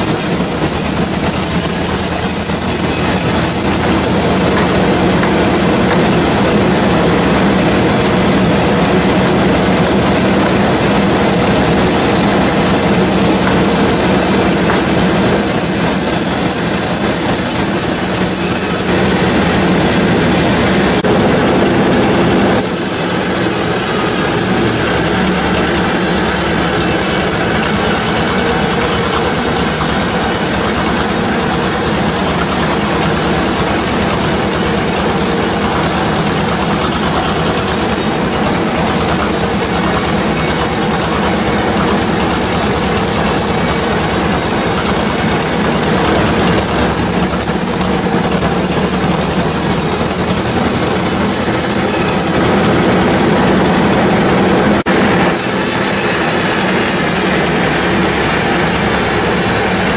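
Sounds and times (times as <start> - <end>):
sawmill saw cutting log: 0.0 - 59.9.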